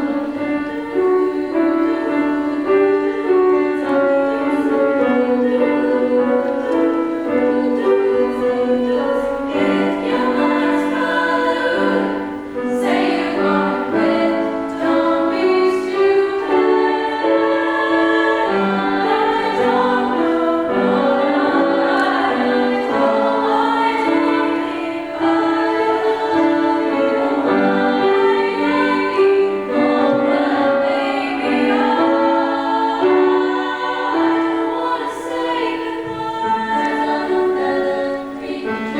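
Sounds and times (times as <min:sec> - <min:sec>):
vocal group singing in harmony: 0:00.0 - 0:38.9.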